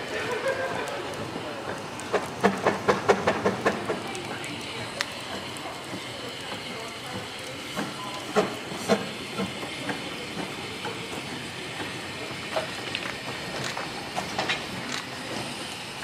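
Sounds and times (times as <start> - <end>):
steam hissing: 0.0 - 16.0
train wheels clicking and clanking: 0.0 - 16.0.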